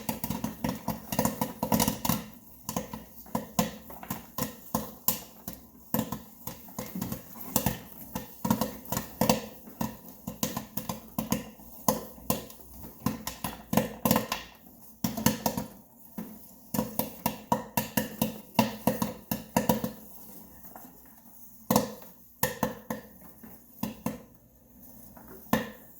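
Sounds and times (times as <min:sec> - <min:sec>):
popcorn popping: 0:00.0 - 0:25.9.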